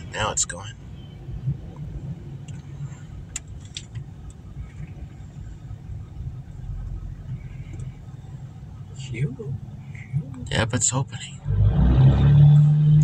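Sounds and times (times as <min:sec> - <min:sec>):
car cabin rumble: 0:00.0 - 0:11.3.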